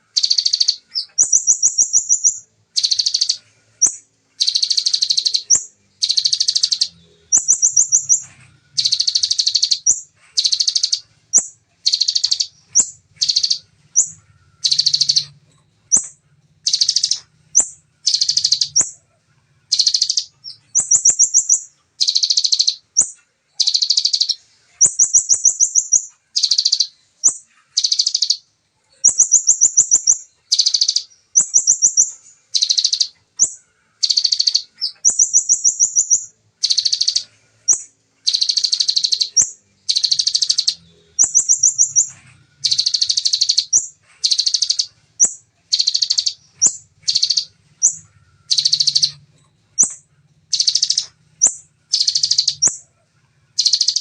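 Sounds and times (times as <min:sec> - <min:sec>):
bird buzzy trills: 0:00.0 - 0:28.4, 0:29.0 - 0:54.0
bird singing short high phrases: 0:00.1 - 0:19.0, 0:19.7 - 0:54.0.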